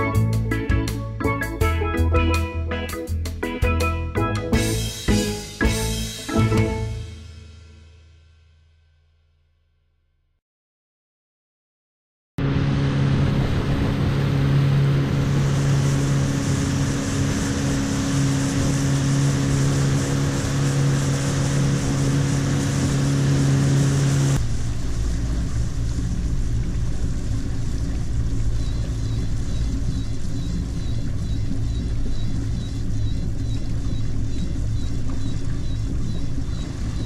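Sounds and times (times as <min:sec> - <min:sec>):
boat engine humming: 0:00.0 - 0:07.8, 0:12.4 - 0:37.0.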